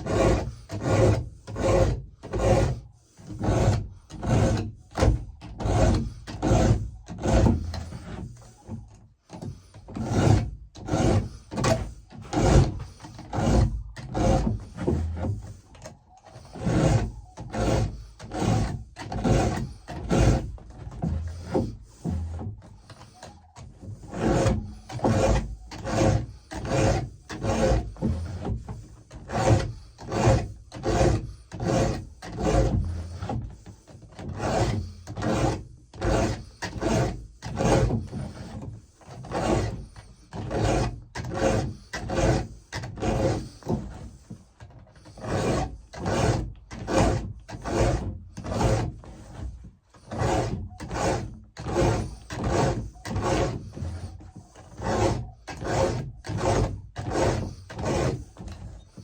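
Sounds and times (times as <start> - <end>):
file rasping on chain teeth: 0.0 - 59.0.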